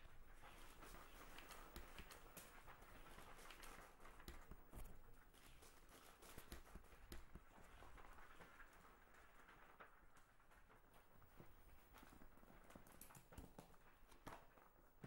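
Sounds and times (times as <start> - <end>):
faint clicks and taps: 0.1 - 15.0.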